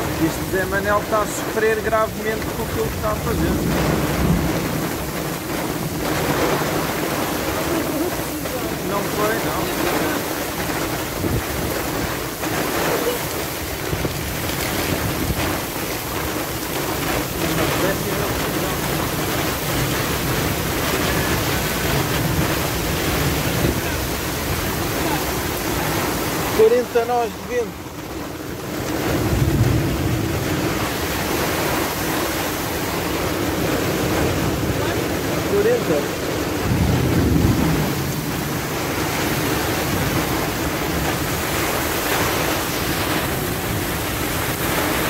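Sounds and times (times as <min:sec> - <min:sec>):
choppy sea: 0:00.0 - 0:45.0
rain: 0:00.0 - 0:45.0
storm wind buffeting microphone: 0:00.0 - 0:45.0.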